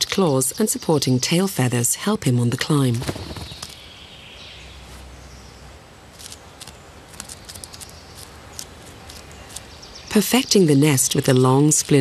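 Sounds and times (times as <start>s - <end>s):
quiet forest ambience: 0.0s - 12.0s.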